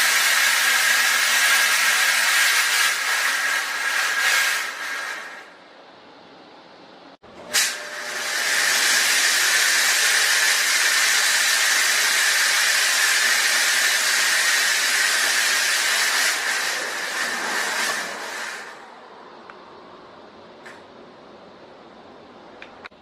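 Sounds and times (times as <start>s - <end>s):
air conditioner blowing air: 0.0s - 23.0s.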